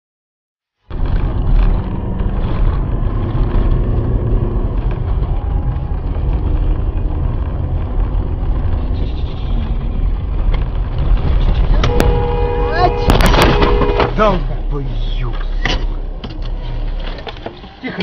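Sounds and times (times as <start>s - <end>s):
car road and engine rumble: 0.8s - 18.0s.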